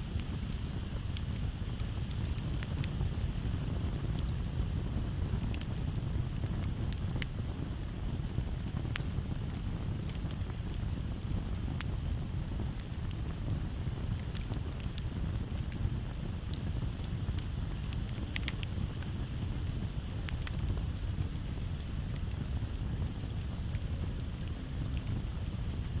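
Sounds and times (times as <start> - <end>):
campfire crackling and popping: 0.0 - 26.0
crickets trilling: 0.0 - 26.0.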